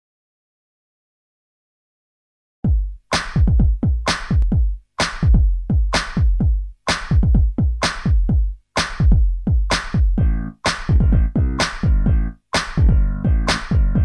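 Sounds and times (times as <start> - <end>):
electronic music with drum-machine beat: 2.7 - 14.0.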